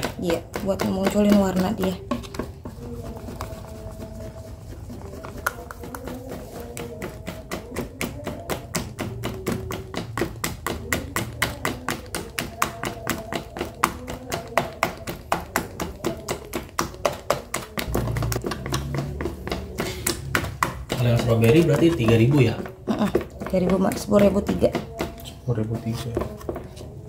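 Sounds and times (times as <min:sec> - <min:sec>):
whisk beating batter in plastic tub: 0:00.0 - 0:27.0.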